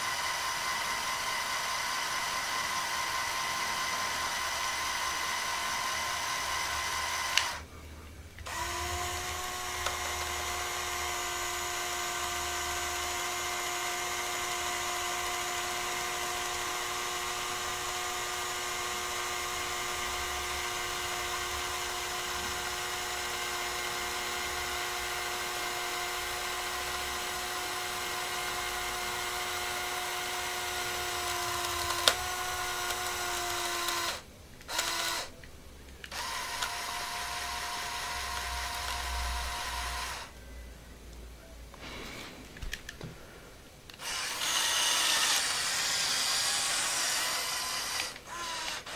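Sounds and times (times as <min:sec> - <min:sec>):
small electric motor whining: 0:00.0 - 0:07.6, 0:08.4 - 0:35.3, 0:36.1 - 0:40.3, 0:43.9 - 0:48.9.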